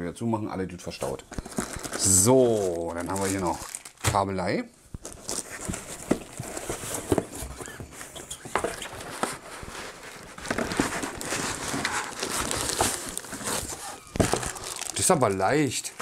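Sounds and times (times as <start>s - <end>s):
cardboard and foam rustling: 1.0s - 4.2s, 5.0s - 16.0s.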